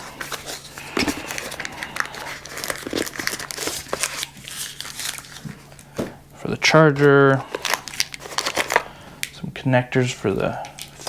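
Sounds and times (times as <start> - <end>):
paper and plastic crinkling: 0.0 - 9.5, 10.3 - 11.0.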